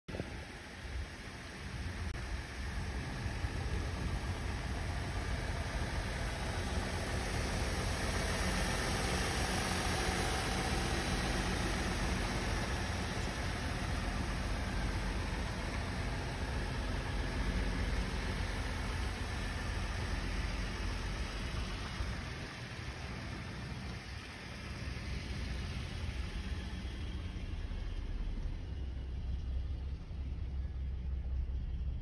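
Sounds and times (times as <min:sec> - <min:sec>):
pickup truck engine idling: 0:00.1 - 0:32.0.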